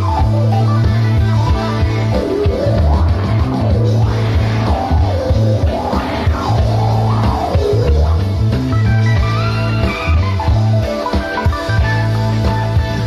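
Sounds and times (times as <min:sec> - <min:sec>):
bass riff: 0:00.0 - 0:13.0
jazz fusion band playing: 0:00.0 - 0:13.0.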